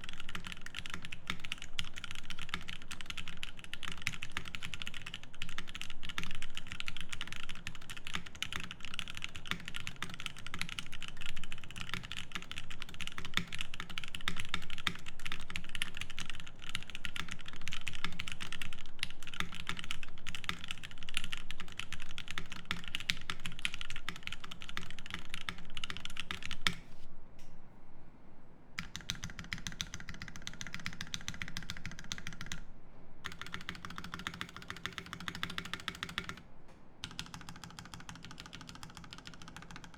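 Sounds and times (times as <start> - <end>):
fast mechanical keyboard typing: 0.0 - 26.8, 28.8 - 32.6, 33.2 - 36.4, 37.0 - 39.9.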